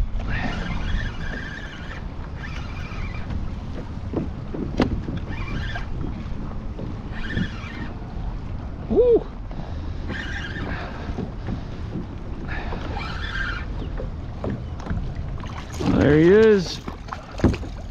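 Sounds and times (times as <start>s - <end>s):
waves slapping kayak hull: 0.0s - 17.9s
wind rumble on microphone: 0.0s - 17.9s.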